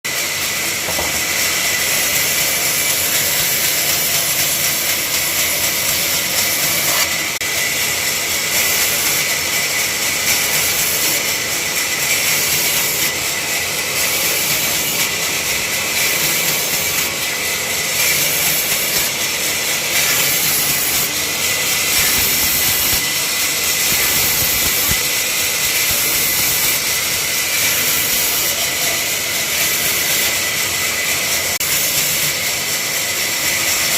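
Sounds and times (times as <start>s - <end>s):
woodworking machine hissing: 0.1s - 33.9s.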